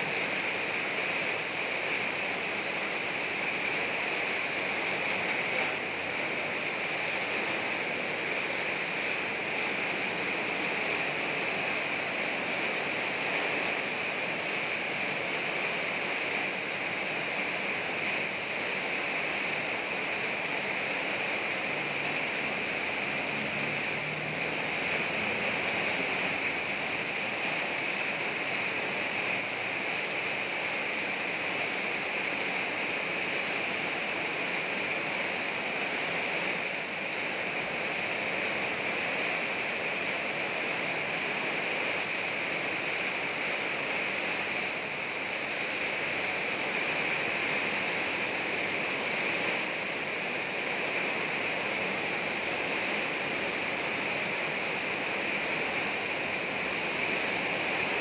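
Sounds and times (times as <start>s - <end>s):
heavy rain on metal roof: 0.0s - 58.0s.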